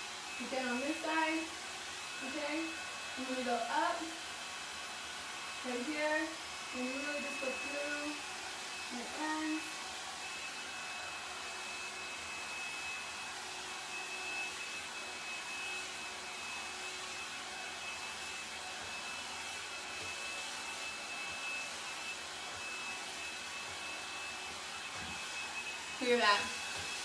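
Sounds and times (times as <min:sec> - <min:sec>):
hot-air brush blowing: 0:00.0 - 0:27.0.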